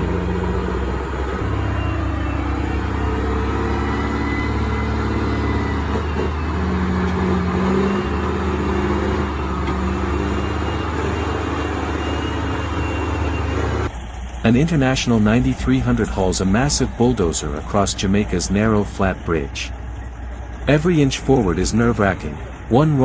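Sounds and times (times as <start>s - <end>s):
truck diesel engine labouring: 0.0s - 23.0s.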